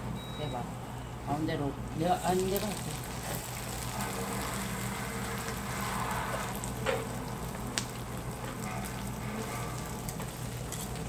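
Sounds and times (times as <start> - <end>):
meat sizzling on a grill: 1.4 - 11.0.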